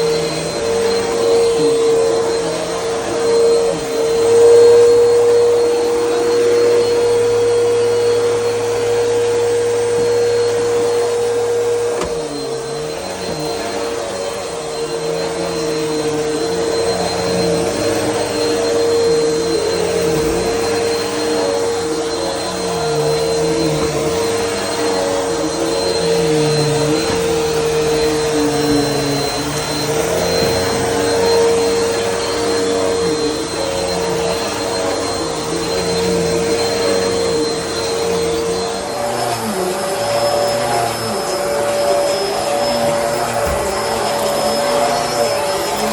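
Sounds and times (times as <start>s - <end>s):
vacuum cleaner motor whine: 0.0s - 45.9s.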